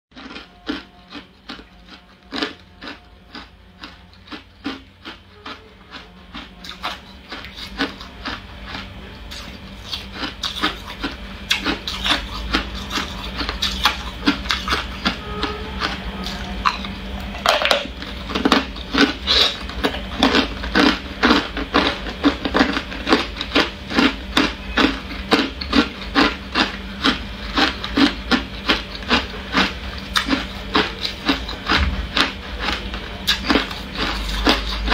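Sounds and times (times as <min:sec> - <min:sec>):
ice cubes crunched between teeth: 0:00.2 - 0:15.2, 0:15.8 - 0:34.9.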